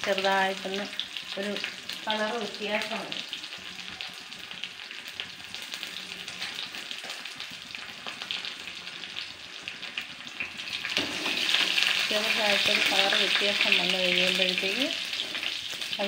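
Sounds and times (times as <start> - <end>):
food sizzling in hot oil: 0.0 - 16.0
oil crackling: 0.0 - 16.0.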